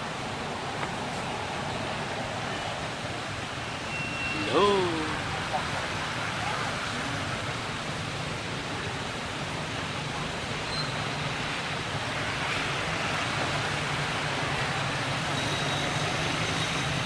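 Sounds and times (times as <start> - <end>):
road traffic engine hum: 0.0 - 17.0.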